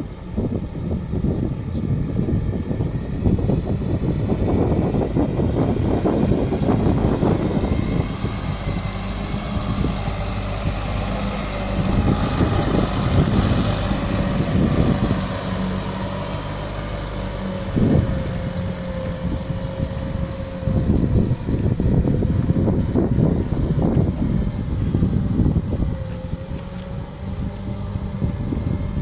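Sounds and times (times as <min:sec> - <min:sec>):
diesel truck engine running: 0:00.0 - 0:29.0.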